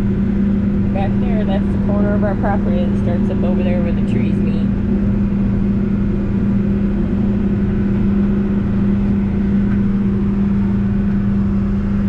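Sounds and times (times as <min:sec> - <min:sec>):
backhoe engine droning: 0:00.0 - 0:12.0.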